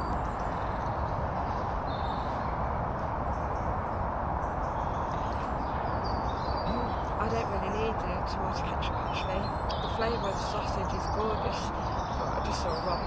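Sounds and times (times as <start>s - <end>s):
rushing outdoor background noise: 0.0s - 13.0s.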